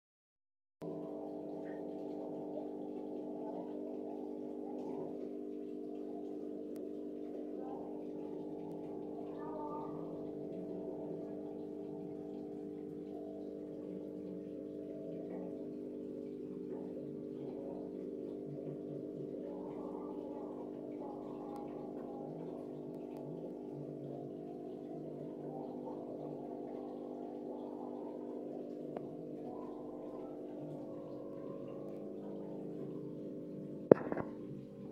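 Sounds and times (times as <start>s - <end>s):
aquarium pump hum: 0.8s - 34.9s
faint higher notes: 0.8s - 34.9s.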